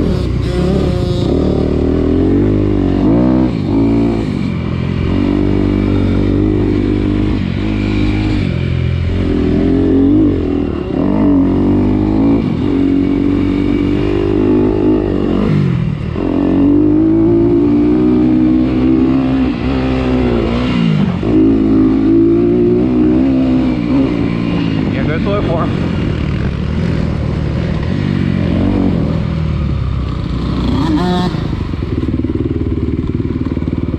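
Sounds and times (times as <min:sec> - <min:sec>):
off-road vehicle engine revving: 0:00.0 - 0:33.1.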